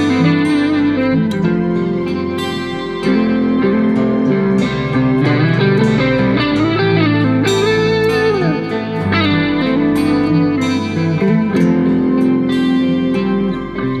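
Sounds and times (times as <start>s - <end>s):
bass line: 0.0s - 14.0s
electric guitar melody: 0.0s - 14.0s.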